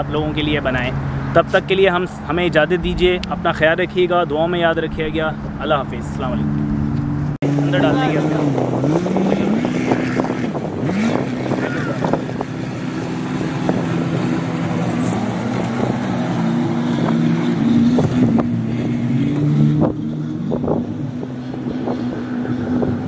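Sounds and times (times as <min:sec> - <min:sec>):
jet ski engine running: 0:00.0 - 0:23.0
wind buffeting microphone: 0:00.0 - 0:23.0.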